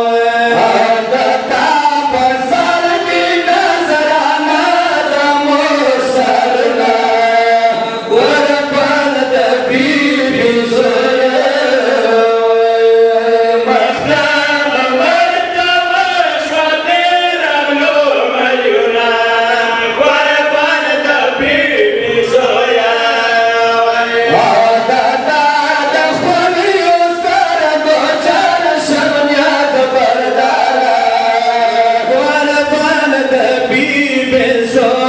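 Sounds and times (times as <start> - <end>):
men chanting into microphones: 0.0 - 35.0.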